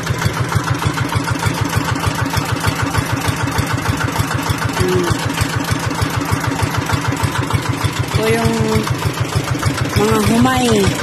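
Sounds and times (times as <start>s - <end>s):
water pump engine running: 0.0s - 11.0s.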